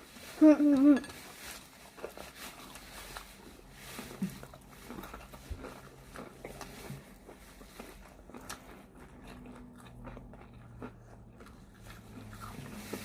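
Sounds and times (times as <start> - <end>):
quiet chewing: 0.3 - 13.0.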